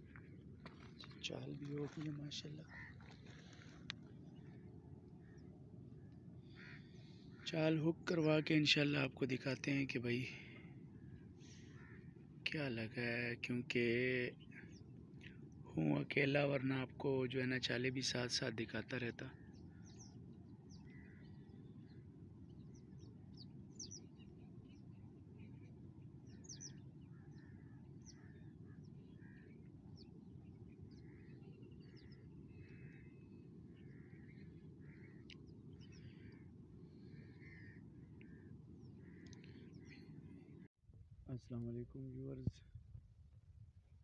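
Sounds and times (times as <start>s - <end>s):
birds chirping: 0.0s - 40.7s.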